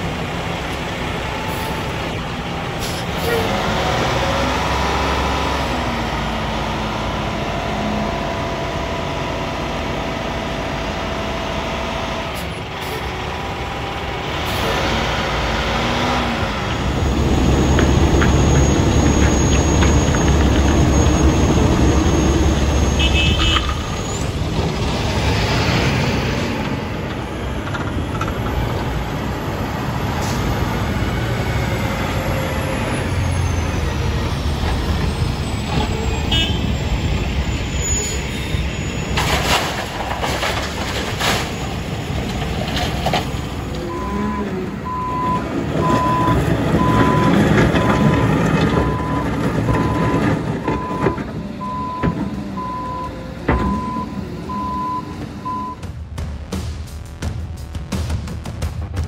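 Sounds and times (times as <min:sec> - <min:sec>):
diesel truck engines rumbling: 0:00.0 - 0:58.9.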